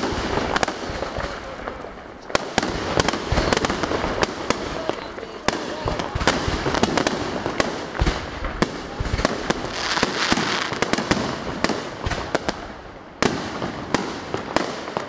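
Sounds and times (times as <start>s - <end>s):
fireworks bursts and bangs: 0.0s - 15.0s.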